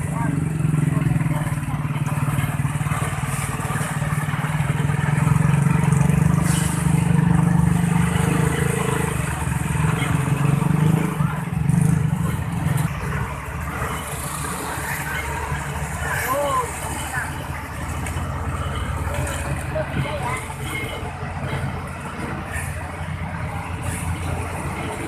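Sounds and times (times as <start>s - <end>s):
large engine humming: 0.0s - 25.0s
road traffic: 0.0s - 25.0s.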